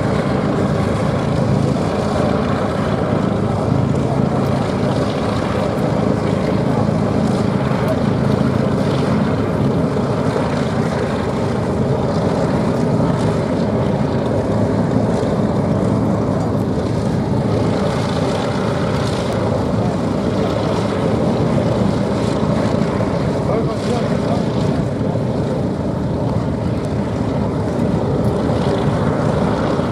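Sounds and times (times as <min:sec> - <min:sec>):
propeller plane engines droning: 0:00.0 - 0:29.9.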